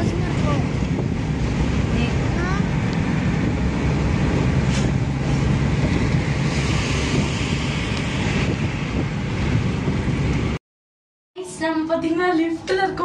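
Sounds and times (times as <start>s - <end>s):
car road and wind noise: 0.0s - 10.6s.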